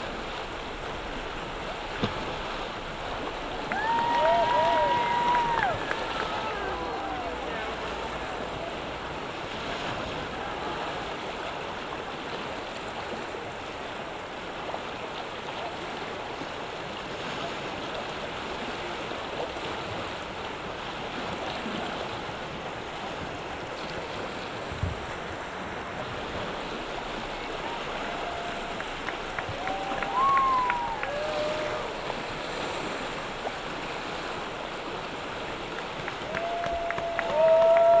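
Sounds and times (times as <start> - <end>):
river rapids rushing: 0.0 - 38.0.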